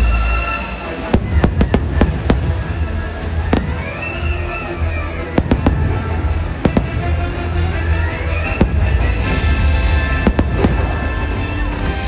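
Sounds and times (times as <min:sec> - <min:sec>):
loud show music: 0:00.0 - 0:12.0
fireworks cracking: 0:00.8 - 0:12.0.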